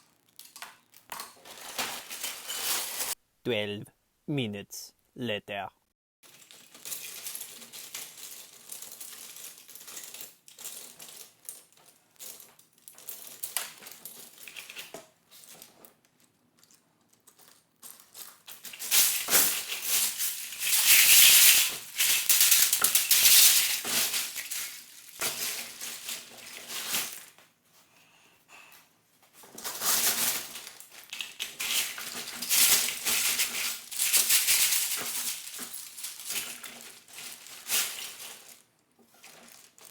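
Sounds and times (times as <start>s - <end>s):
plastic pieces clattering: 0.0s - 3.2s, 6.2s - 27.5s, 29.4s - 39.9s.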